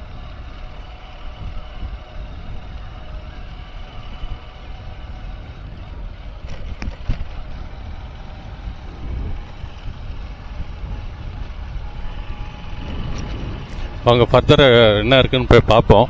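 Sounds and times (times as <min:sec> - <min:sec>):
vehicle engine running: 0:00.0 - 0:16.0
wind buffeting microphone: 0:00.0 - 0:16.0.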